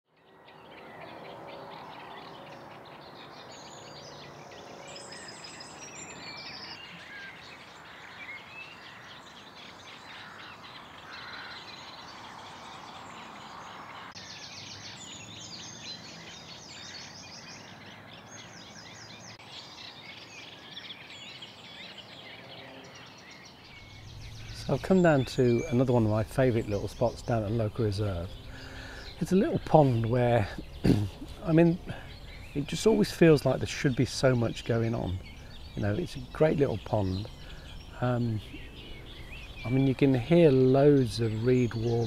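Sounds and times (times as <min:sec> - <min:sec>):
reed warblers singing: 0:00.1 - 0:42.0
outdoor background hiss: 0:00.2 - 0:42.0.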